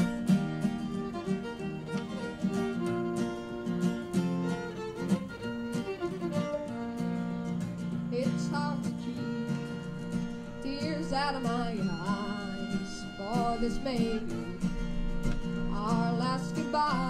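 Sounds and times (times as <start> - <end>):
acoustic guitar strumming: 0.0 - 17.0
fiddle playing bluegrass melody: 0.0 - 17.0.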